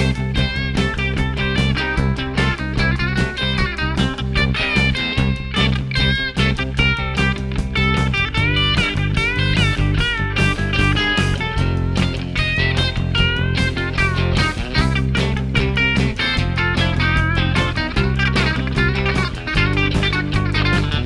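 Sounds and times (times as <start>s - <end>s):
bass: 0.0s - 21.0s
electric guitar lead: 0.0s - 21.0s
steady drums: 0.0s - 21.0s.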